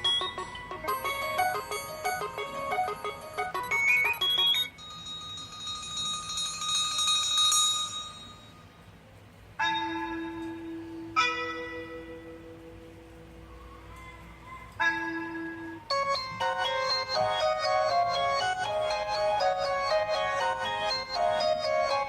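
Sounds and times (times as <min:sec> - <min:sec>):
bell-like phone ringtones: 0:00.0 - 0:08.8, 0:09.6 - 0:12.7, 0:14.8 - 0:22.0.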